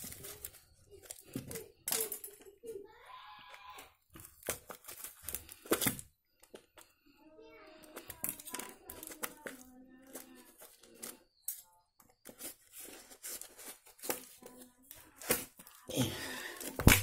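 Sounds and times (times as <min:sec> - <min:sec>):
paper parcel rustling: 0:00.0 - 0:02.8, 0:03.8 - 0:06.9, 0:07.7 - 0:17.0.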